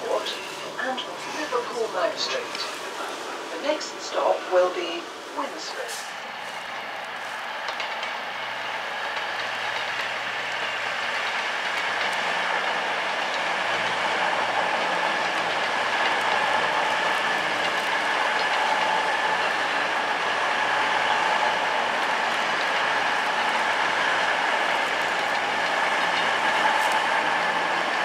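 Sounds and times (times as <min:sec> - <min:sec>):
train rumbling along tracks: 0:00.0 - 0:28.0.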